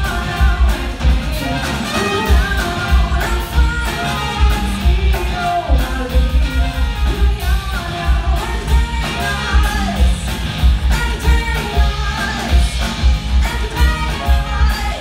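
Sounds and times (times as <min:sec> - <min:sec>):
drums and bass beat: 0:00.0 - 0:15.0
guitar: 0:00.0 - 0:15.0.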